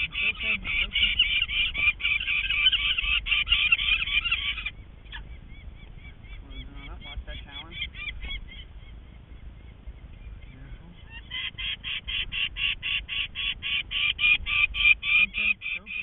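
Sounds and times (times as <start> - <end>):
falcon harsh alarm calls: 0.0 - 16.0.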